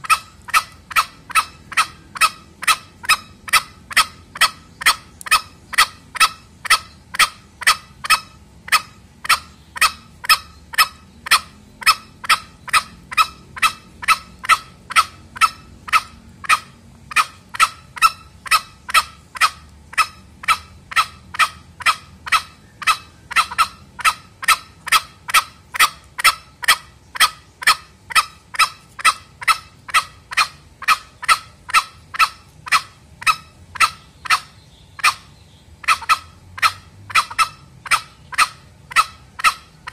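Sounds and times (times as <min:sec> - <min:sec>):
junglefowl clucking calls: 0:00.0 - 0:39.9.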